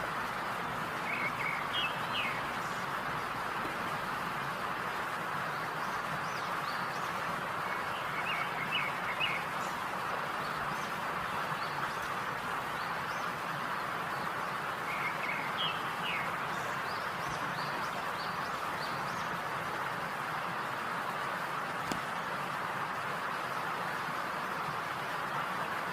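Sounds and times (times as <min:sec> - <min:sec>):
steady hiss: 0:00.0 - 0:25.9
birds chirping: 0:00.3 - 0:24.1.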